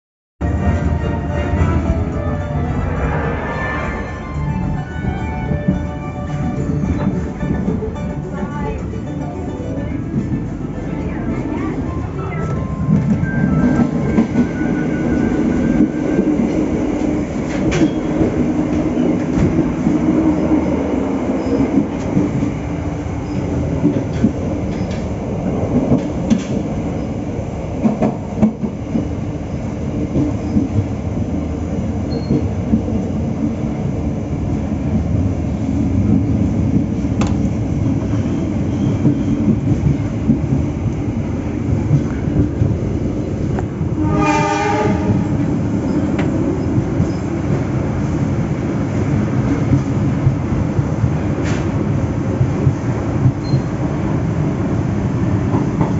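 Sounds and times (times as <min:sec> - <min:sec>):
train wheels rumbling on rails: 0:00.4 - 0:55.9.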